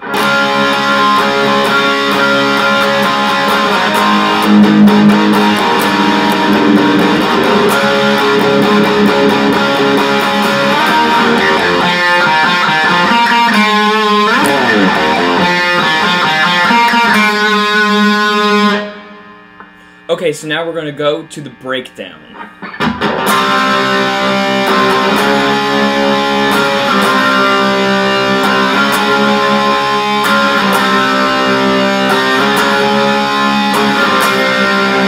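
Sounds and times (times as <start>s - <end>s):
electric guitar strummed chords: 0.0s - 35.0s.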